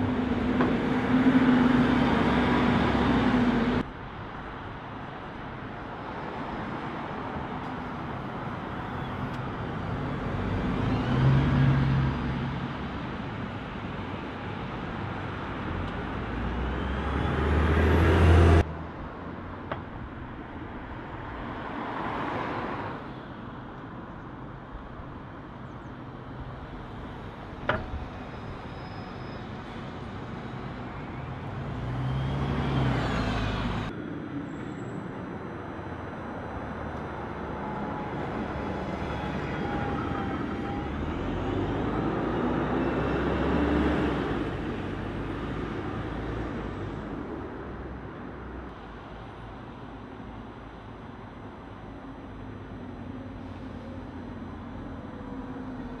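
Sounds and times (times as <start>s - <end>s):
buses driving past: 0.0s - 56.0s.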